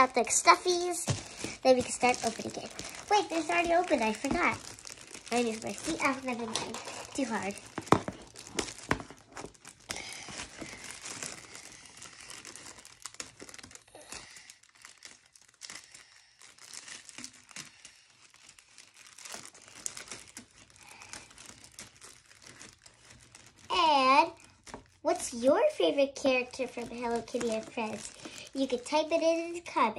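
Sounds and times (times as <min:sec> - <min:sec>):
plastic wrap crinkling and tearing: 0:00.0 - 0:29.8.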